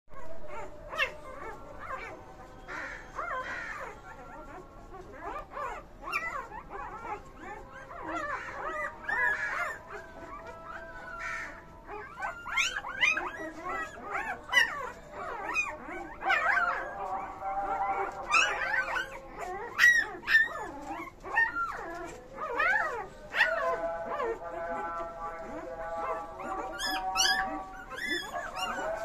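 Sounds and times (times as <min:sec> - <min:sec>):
puppies whimpering and squeaking: 0:00.1 - 0:29.0.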